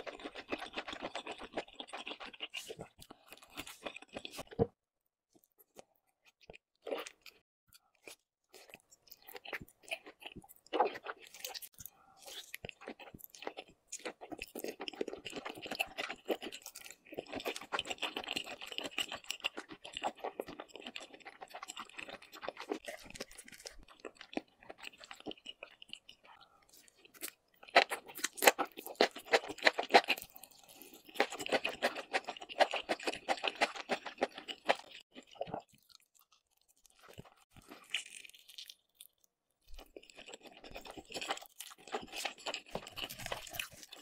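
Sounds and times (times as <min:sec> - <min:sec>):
wet chewing: 0:00.0 - 0:04.7, 0:05.3 - 0:44.0.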